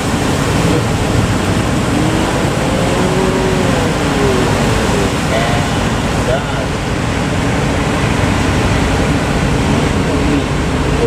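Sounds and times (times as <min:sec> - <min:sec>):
breaking surf: 0:00.0 - 0:11.0
wind: 0:00.0 - 0:11.0.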